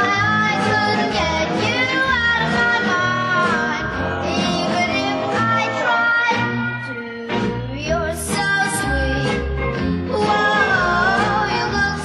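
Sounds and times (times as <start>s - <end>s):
pop record with singing voice: 0.0s - 12.0s.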